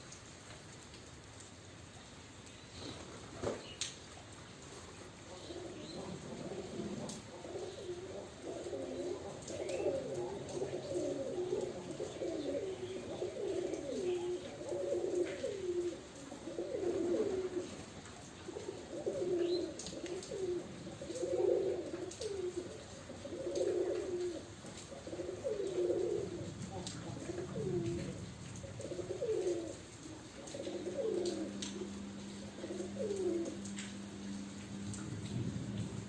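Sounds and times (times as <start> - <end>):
pigeons cooing: 4.6 - 36.0.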